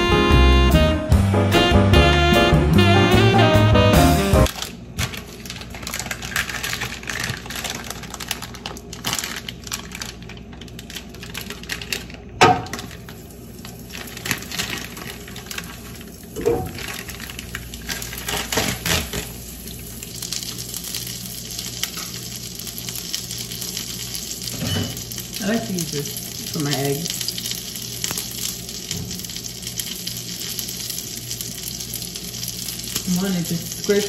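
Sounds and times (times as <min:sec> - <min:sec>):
plastic bag rustling: 0:04.5 - 0:34.0.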